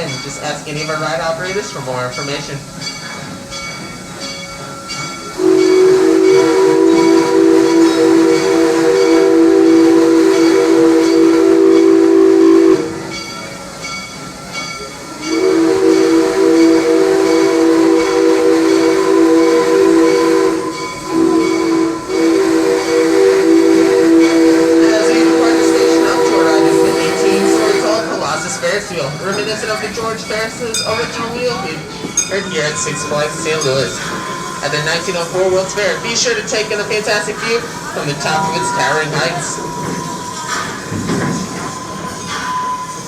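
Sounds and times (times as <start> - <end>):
steam hiss: 0.0 - 43.0
steam locomotive chime whistle: 0.0 - 43.0
train running noise: 0.0 - 43.0.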